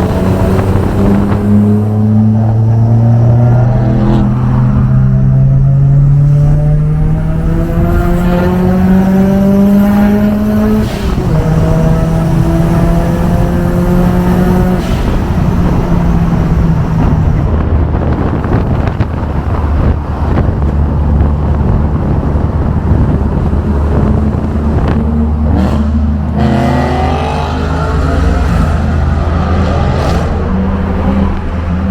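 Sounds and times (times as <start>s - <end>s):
road noise: 0.0s - 31.9s.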